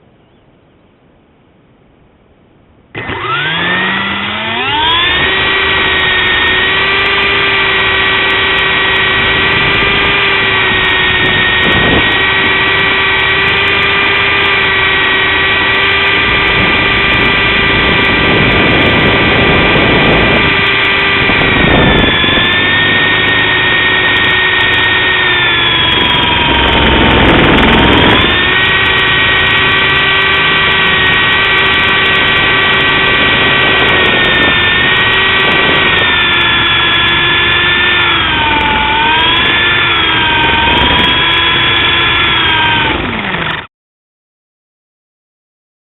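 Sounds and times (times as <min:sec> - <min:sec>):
toy helicopter motor whine: 0:03.0 - 0:43.7.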